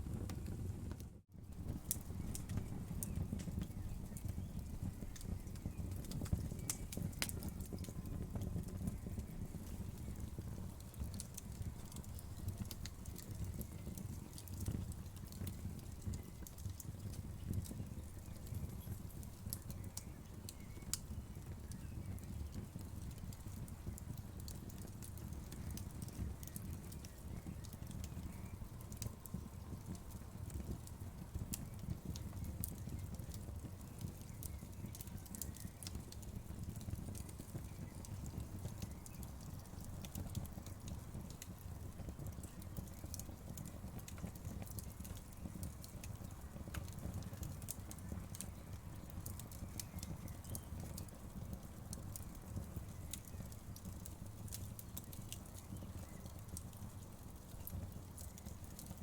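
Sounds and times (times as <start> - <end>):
crackles and pops of burning wood: 0.0 - 59.0
low rumble of flames: 0.0 - 59.0.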